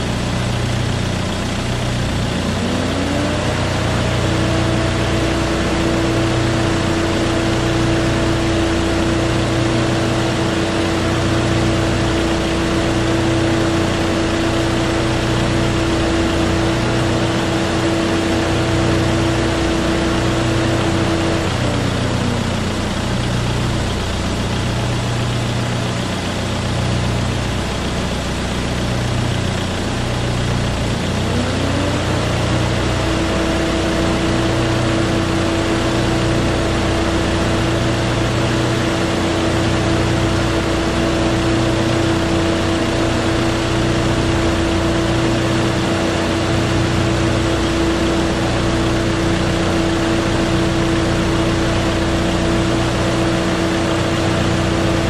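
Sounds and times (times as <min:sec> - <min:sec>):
car engines idling: 0:00.0 - 0:55.0.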